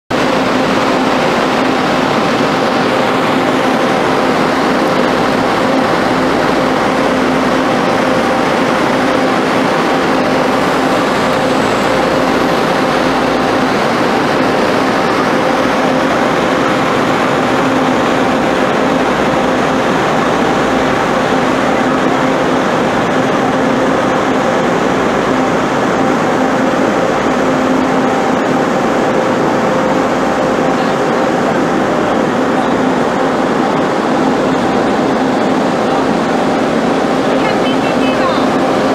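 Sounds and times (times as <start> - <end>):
mechanical rumble and rushing: 0.1 - 38.9.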